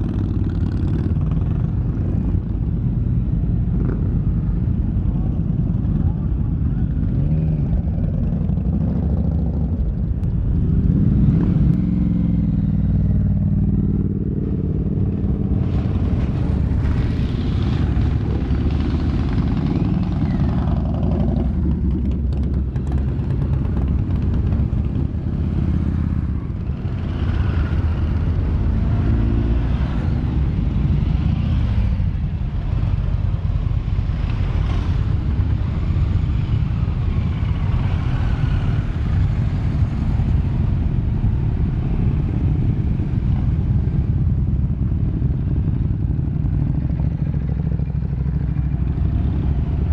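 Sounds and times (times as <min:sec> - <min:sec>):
motorcycles riding past: 0:00.0 - 0:49.9.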